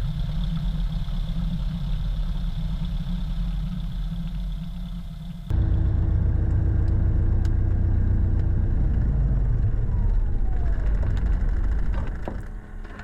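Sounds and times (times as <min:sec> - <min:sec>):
faint falling whine: 0:00.0 - 0:13.0
propeller aircraft engine running: 0:00.0 - 0:13.0.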